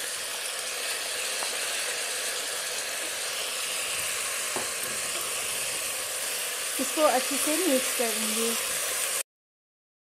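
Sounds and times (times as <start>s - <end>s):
vegetables sizzling in hot oil: 0.0s - 9.3s.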